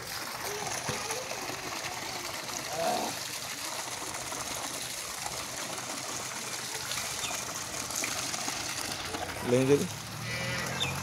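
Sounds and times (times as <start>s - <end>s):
water gushing and splashing on mud: 0.0s - 11.0s.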